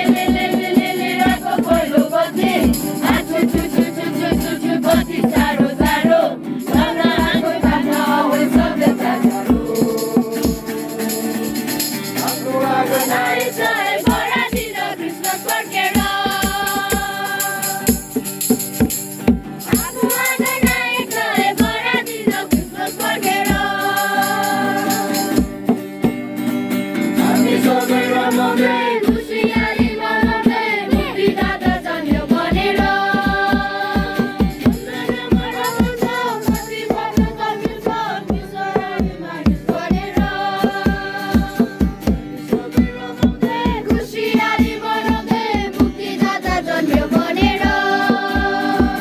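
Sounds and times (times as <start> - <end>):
group singing a carol: 0.0 - 18.6, 19.6 - 25.8, 27.0 - 49.0
acoustic guitar strumming: 0.0 - 49.0.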